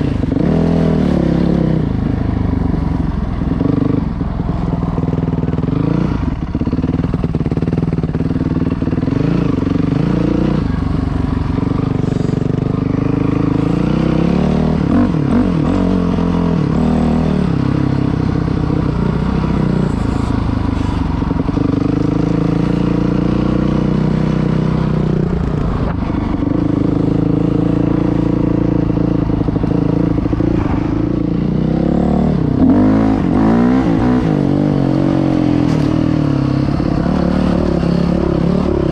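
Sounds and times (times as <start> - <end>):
dirt bike engine revving: 5.6 - 38.9.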